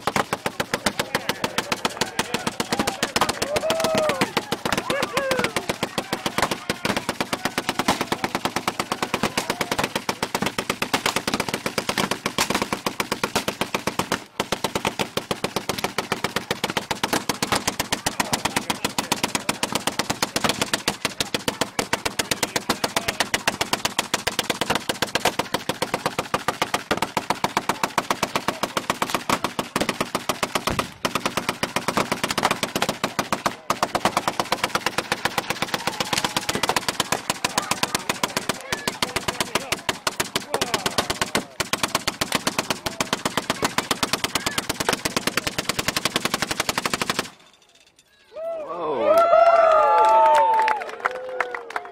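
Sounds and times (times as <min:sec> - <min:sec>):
rapid gunfire burst: 0:00.0 - 0:47.5.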